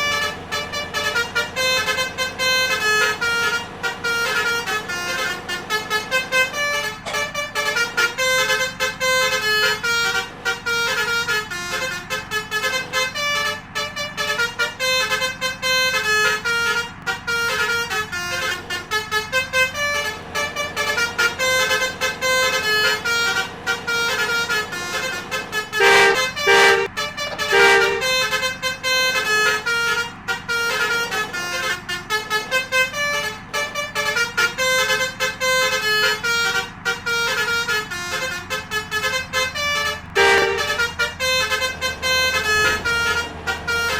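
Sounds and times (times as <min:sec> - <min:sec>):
low steady rumble: 0:00.0 - 0:43.9
musical multi-trumpet horn: 0:00.0 - 0:43.9.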